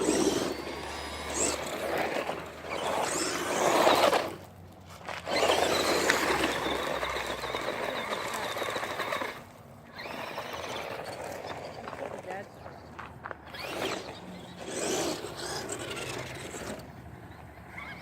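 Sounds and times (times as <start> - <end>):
faint high motor whine: 0.0 - 18.0
tyres on rough dirt: 0.0 - 18.0.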